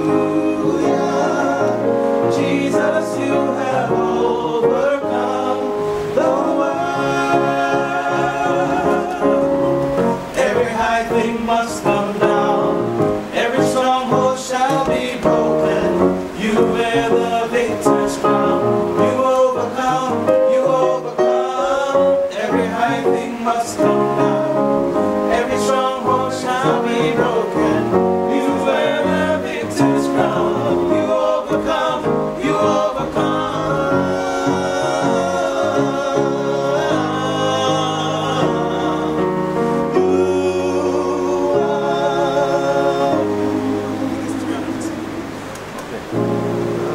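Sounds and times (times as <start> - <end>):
instrumental backing: 0.0 - 46.9
men singing in harmony: 0.0 - 46.9.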